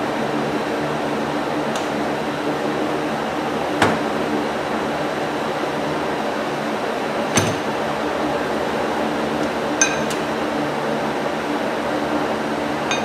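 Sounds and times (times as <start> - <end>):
fan whir with low hum: 0.0 - 13.0.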